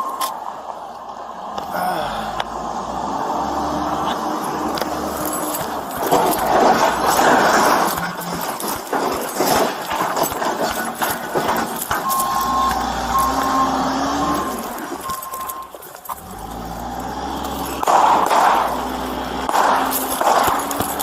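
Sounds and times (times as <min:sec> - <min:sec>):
backhoe engine clattering: 0:00.0 - 0:21.0.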